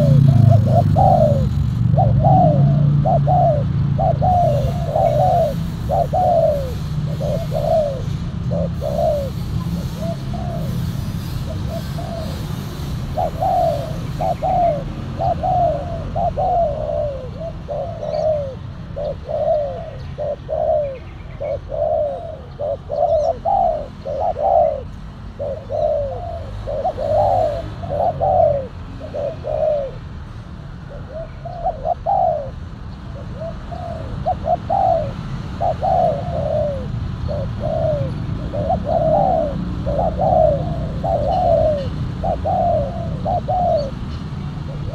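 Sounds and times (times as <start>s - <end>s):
doves cooing: 0.0s - 44.9s.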